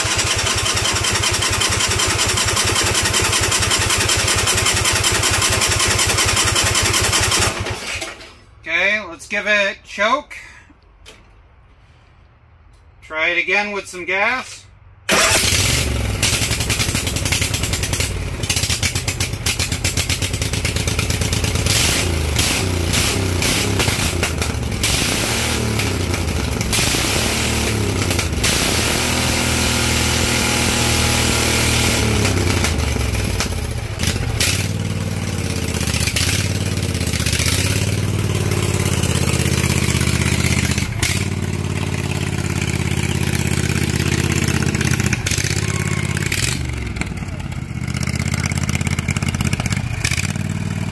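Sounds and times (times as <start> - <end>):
lawn tractor engine running: 0.0 - 8.5, 15.1 - 50.9.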